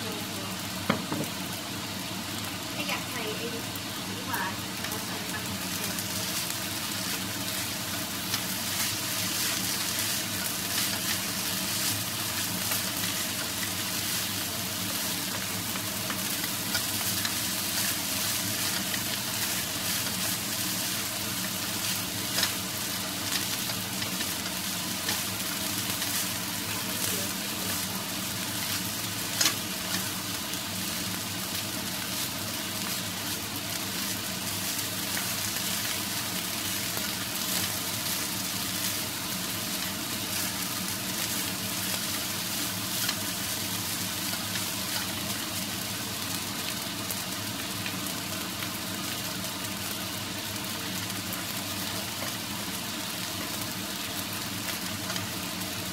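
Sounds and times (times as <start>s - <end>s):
rice sizzling in a frying pan: 0.0s - 55.9s.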